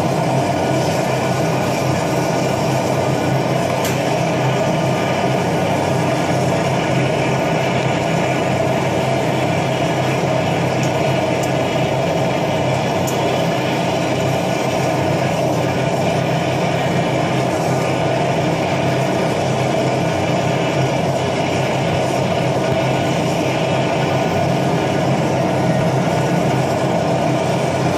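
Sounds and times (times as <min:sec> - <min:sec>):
steady hum: 0:00.0 - 0:27.9
torch flame roaring: 0:00.0 - 0:27.9.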